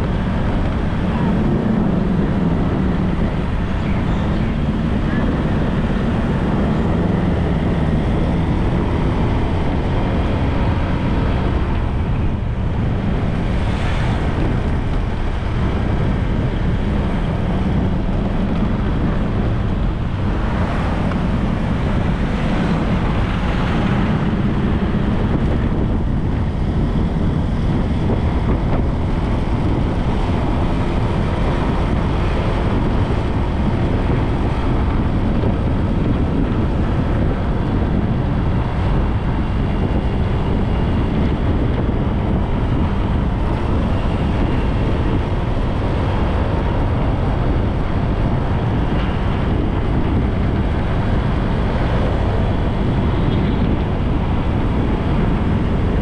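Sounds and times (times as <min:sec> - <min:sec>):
road and traffic noise: 0:00.0 - 0:56.0
wind rushing on microphone: 0:00.0 - 0:56.0.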